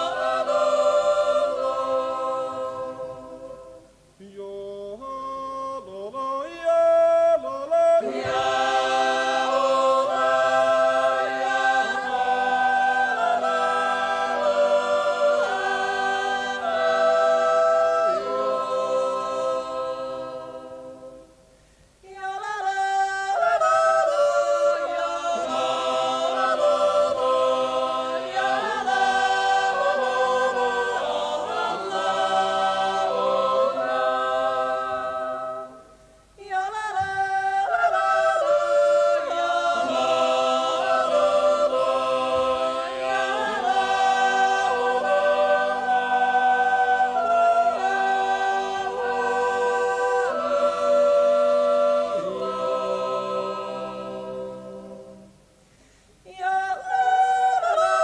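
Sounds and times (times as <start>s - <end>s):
choir yodeling a cappella: 0.0s - 55.5s, 56.2s - 58.0s.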